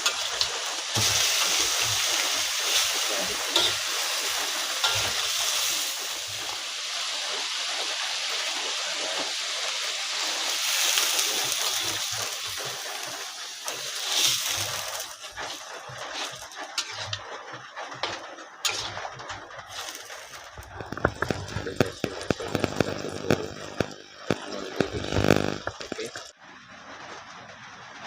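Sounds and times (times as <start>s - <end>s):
heavy rain hissing: 0.0s - 16.6s, 18.9s - 26.3s.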